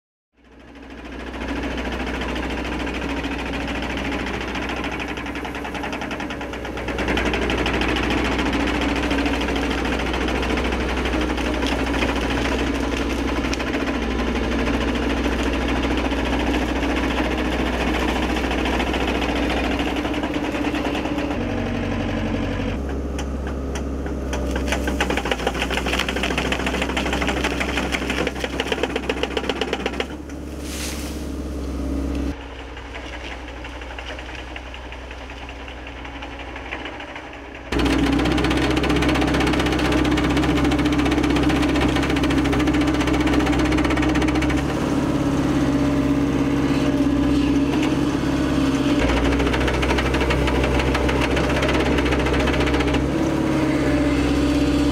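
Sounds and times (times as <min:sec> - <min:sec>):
diesel engine under load: 0:00.4 - 0:54.9.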